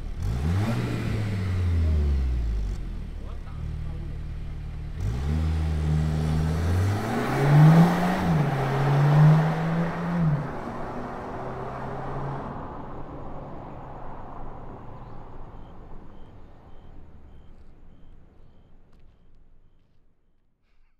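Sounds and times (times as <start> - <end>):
car engine accelerating away: 0.0 - 18.7.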